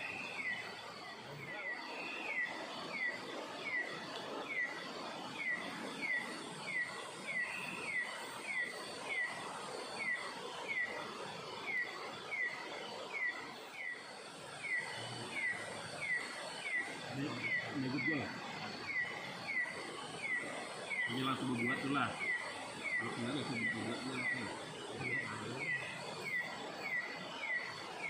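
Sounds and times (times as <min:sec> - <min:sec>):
bird chirping: 0:00.0 - 0:28.0
forest background noise: 0:00.0 - 0:28.0.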